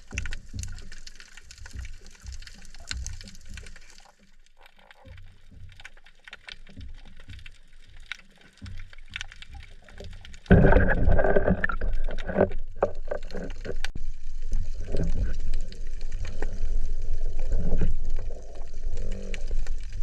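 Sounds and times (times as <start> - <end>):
faint crackling clicks: 0.0 - 20.0
water splashing and gurgling: 0.0 - 20.0.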